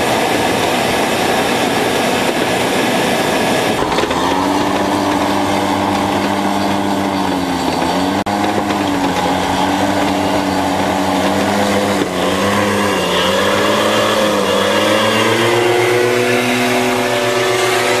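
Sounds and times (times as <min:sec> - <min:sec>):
paramotor engine and propeller: 0:00.0 - 0:18.0.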